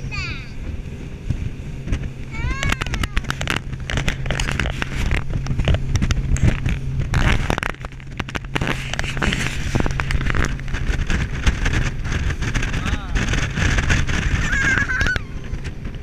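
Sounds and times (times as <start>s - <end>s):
boat engine running: 0.0s - 16.0s
rushing wind: 0.0s - 16.0s
water noise: 0.0s - 16.0s
irregular knocks and crackles: 1.3s - 14.4s.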